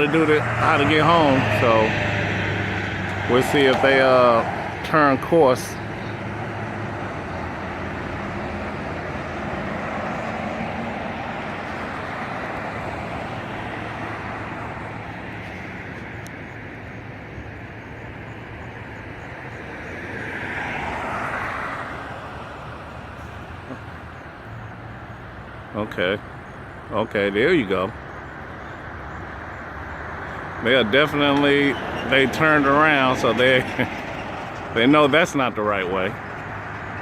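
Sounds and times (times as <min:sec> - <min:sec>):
road traffic hum: 0:00.0 - 0:37.0
vehicle passing: 0:00.0 - 0:37.0.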